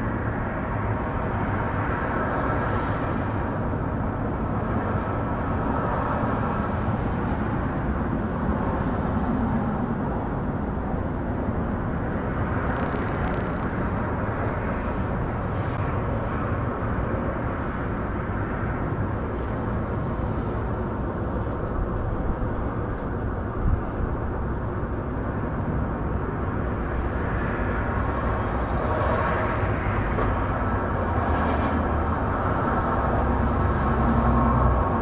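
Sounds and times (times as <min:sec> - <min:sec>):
distant traffic rumble: 0:00.0 - 0:35.0.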